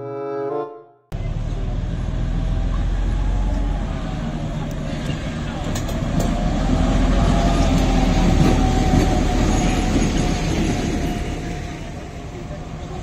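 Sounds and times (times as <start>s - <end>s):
diesel train rumbling on rails: 1.2s - 13.0s.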